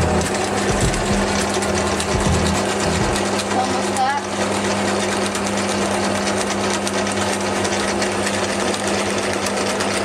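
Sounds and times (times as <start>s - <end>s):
drill press boring wood: 0.0s - 10.0s.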